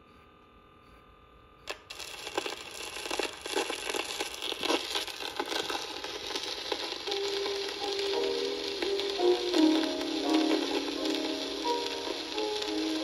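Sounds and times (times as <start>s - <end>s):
record crackle and pops: 1.7s - 13.0s.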